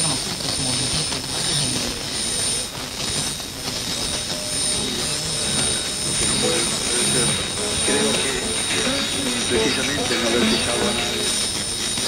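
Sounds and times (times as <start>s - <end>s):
faint indistinct voices: 0.0s - 12.0s
high whine: 0.0s - 12.0s
radio static hiss: 0.0s - 12.0s.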